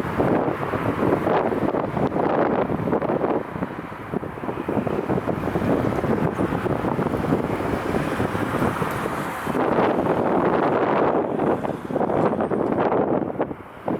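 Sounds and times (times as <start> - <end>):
gusty wind buffeting microphone: 0.0 - 13.9.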